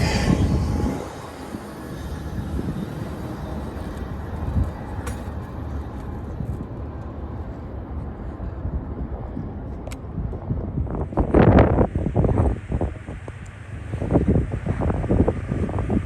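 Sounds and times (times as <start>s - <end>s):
passing train rumble: 0.0s - 16.0s
wind buffeting microphone: 0.0s - 16.0s.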